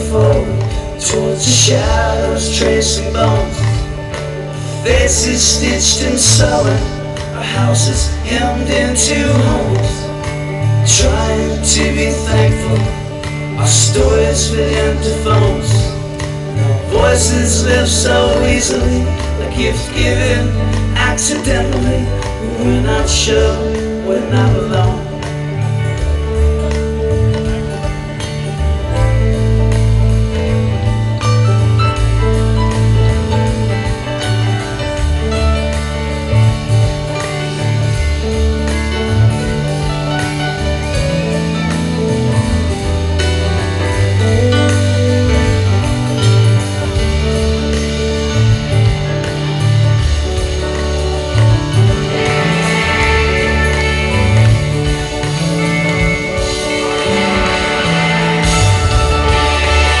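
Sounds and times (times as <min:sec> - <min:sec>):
bass guitar: 0:00.0 - 1:00.0
drums: 0:00.0 - 1:00.0
electric guitars: 0:00.0 - 1:00.0.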